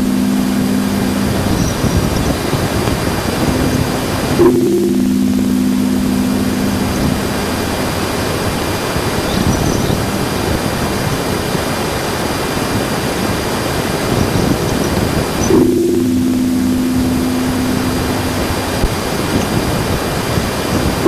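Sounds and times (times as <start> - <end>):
faint high steady tones: 0.0 - 21.0
low hum tones: 0.0 - 21.0
steady hiss of noise: 0.0 - 21.0.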